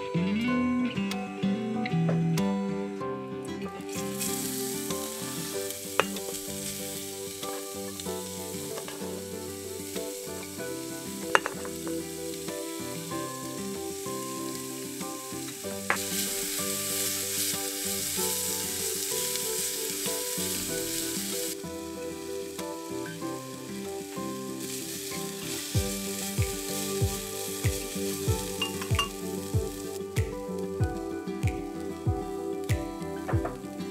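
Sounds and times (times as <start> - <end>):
vegetables sizzling in hot oil: 4.0 - 32.6.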